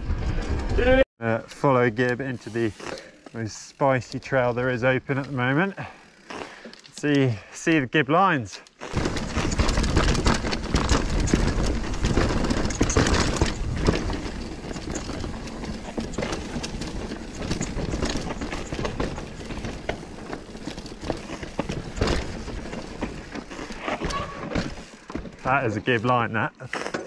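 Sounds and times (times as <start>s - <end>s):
bike tyres on dirt: 0.0s - 27.0s
bike rattling over rocks: 2.0s - 6.9s, 8.8s - 27.0s.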